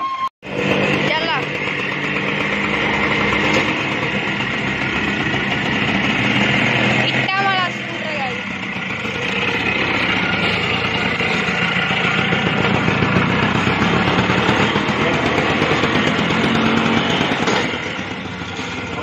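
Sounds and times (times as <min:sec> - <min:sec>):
scooter engine running hard: 0:00.4 - 0:19.0.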